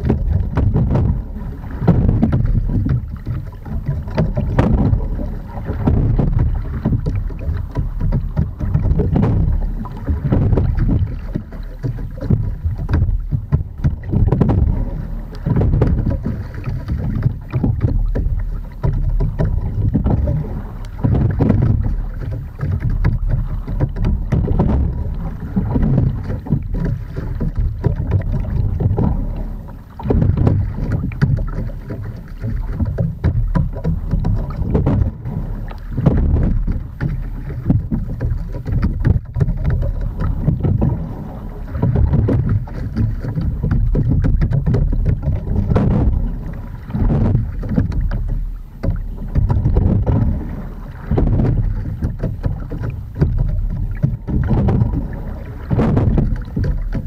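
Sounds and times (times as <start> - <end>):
oar and sliding seat noise: 0.0 - 57.0
water sloshing: 0.0 - 57.0.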